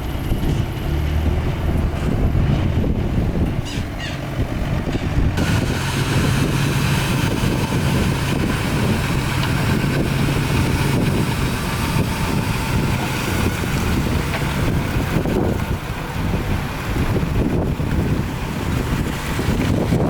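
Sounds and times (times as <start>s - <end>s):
heavy diesel machinery engine drone: 0.0s - 20.0s.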